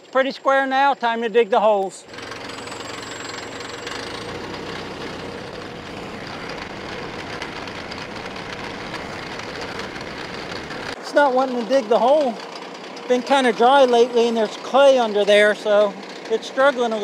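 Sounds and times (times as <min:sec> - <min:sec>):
auger boring into soil: 0:02.0 - 0:17.0
tractor diesel engine running: 0:02.0 - 0:17.0.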